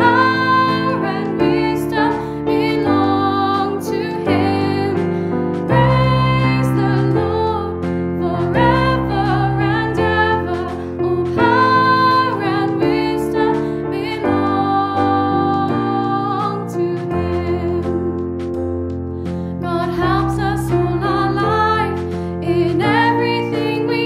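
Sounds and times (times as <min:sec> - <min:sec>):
voices singing: 0:00.0 - 0:05.0, 0:05.6 - 0:18.0, 0:19.6 - 0:24.0
keyboard accompaniment: 0:00.0 - 0:24.0.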